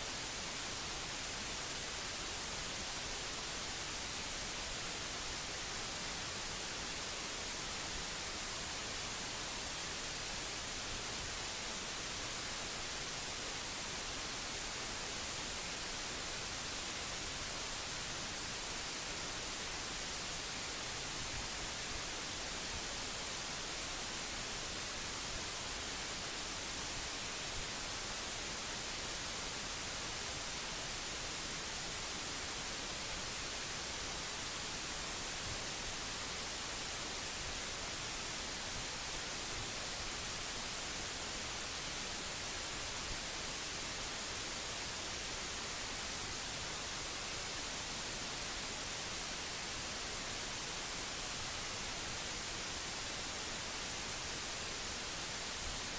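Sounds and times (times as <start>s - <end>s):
static hiss: 0.0s - 55.9s.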